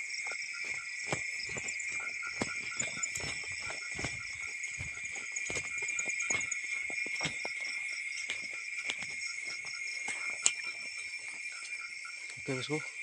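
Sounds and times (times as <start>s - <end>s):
footsteps: 0.0s - 12.6s
crickets and insects chirping: 0.0s - 13.0s.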